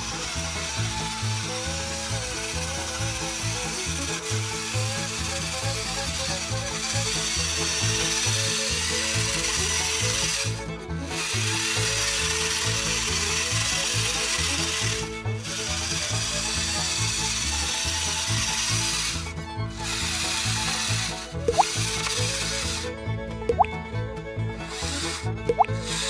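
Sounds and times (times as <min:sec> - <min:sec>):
toy motor grinding whir: 0:00.0 - 0:26.0.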